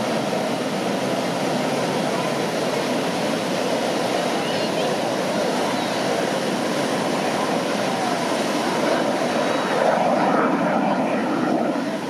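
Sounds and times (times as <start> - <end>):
airplane roar: 0.0 - 12.0
surf washing: 0.0 - 12.0.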